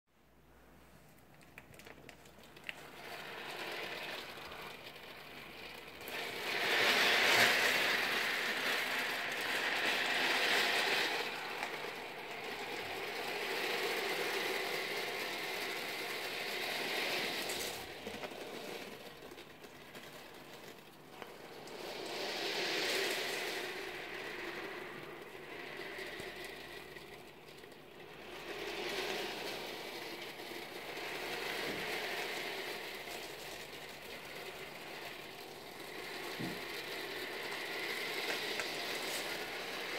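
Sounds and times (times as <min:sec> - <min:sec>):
steel ball bearings rattling: 0:01.2 - 0:39.9.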